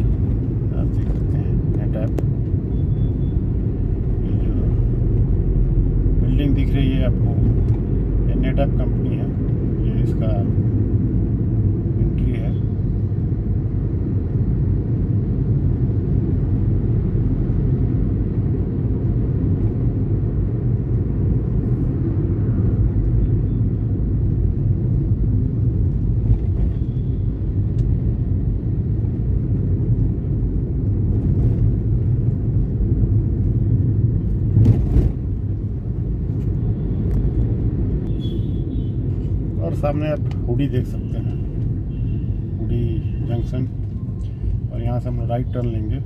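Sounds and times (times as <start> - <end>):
vehicle driving rumble: 0.0 - 46.0.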